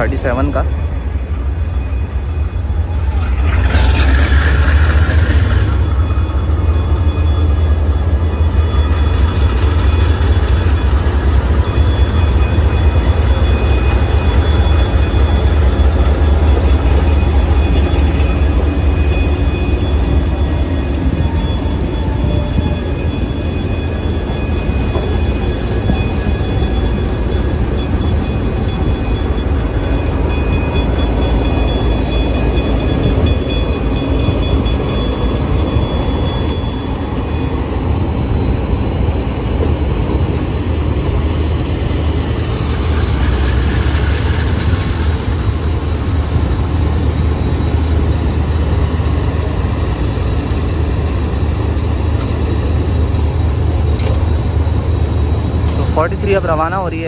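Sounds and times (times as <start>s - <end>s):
diesel locomotive engine rumble: 0.0s - 57.0s.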